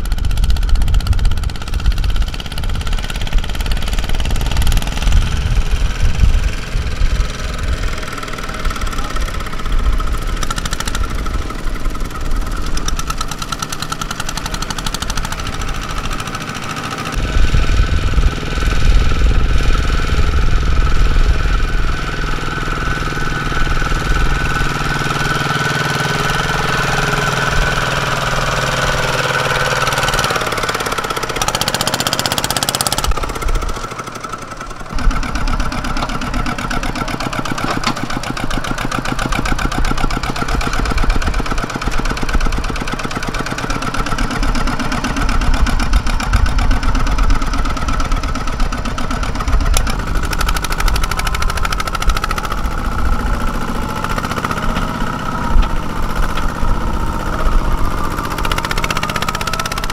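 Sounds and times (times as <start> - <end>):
tractor engine knocking: 0.0 - 59.9.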